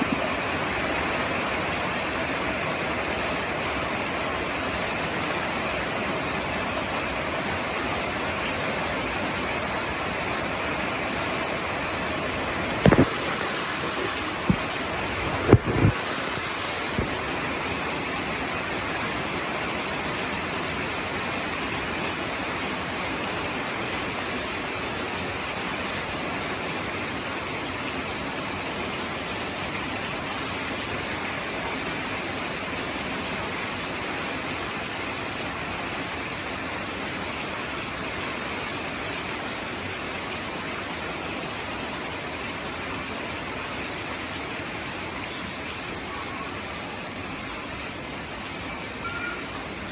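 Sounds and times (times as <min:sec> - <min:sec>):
rain falling steadily: 0:00.0 - 0:49.9.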